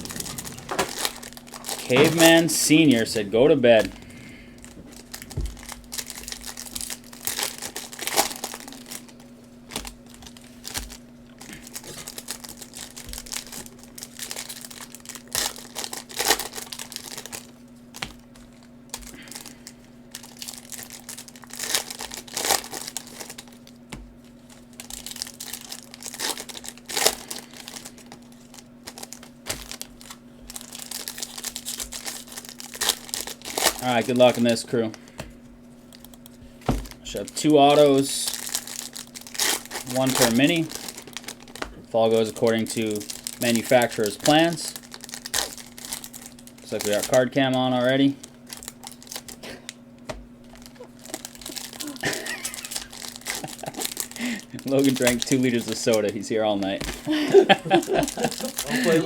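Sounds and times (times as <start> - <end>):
plastic wrapping crinkling and tearing: 0.0 - 59.0.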